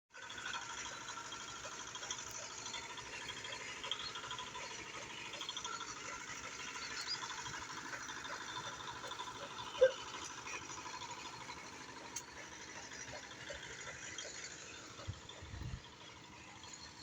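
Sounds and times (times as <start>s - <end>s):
tractor diesel engine idling: 0.1s - 17.0s.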